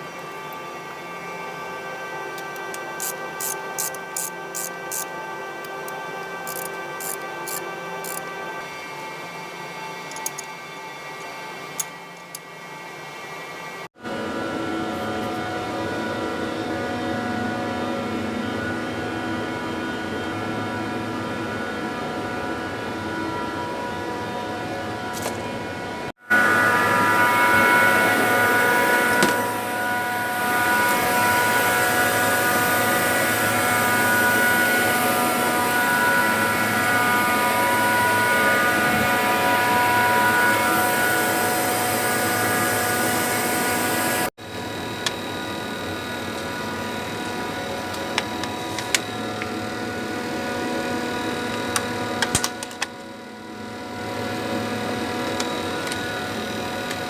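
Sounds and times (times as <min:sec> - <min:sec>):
compressor drone with high whine: 0:00.0 - 0:57.0.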